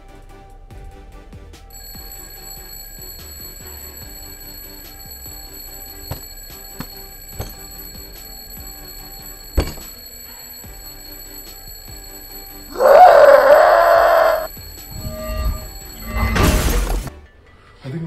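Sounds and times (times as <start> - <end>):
alarm clock ringing: 1.7 - 17.1.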